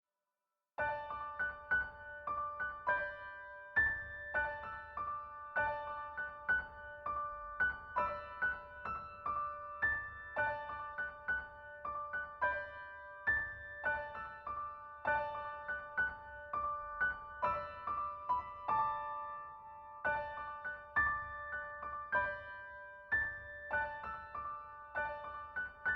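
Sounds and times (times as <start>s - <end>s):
gentle solo piano music: 0.8s - 25.9s.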